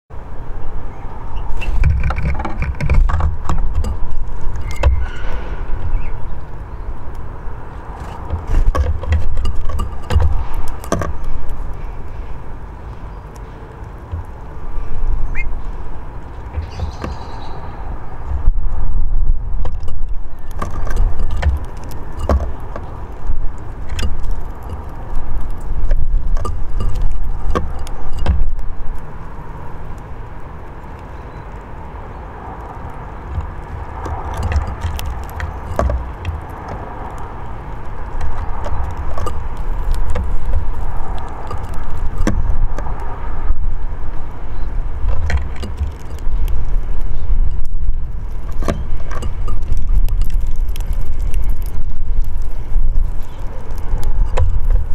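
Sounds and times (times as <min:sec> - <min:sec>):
gusting rumble: 0:00.1 - 0:54.9.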